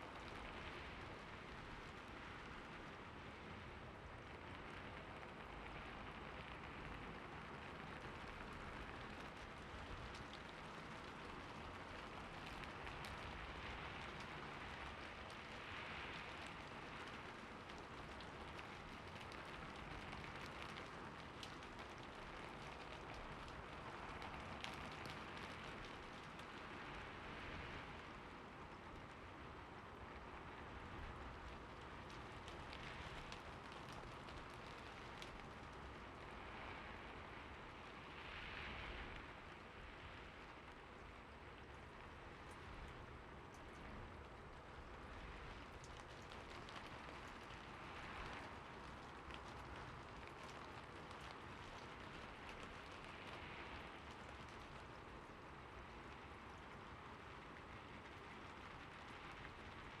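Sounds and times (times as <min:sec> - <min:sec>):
soft rainfall: 0:00.0 - 1:00.0.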